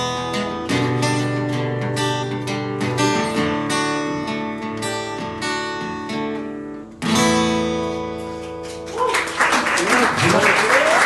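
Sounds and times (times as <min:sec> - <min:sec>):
acoustic guitar strumming chords: 0:00.0 - 0:08.9.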